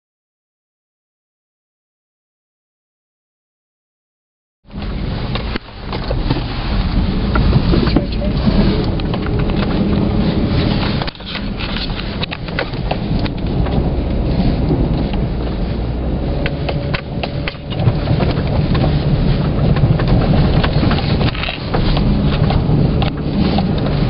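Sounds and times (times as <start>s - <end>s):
vehicle and tyres rumbling: 4.6s - 24.0s.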